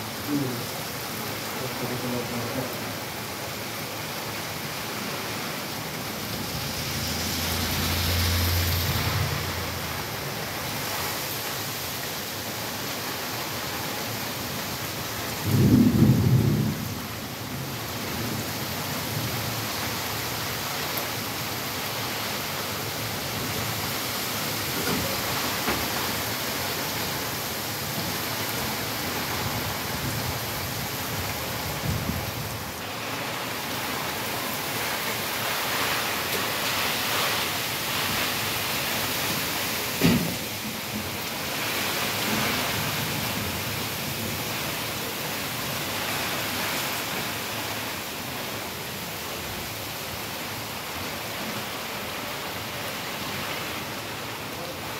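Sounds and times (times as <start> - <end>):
heavy rain on paving and leaves: 0.0 - 54.9.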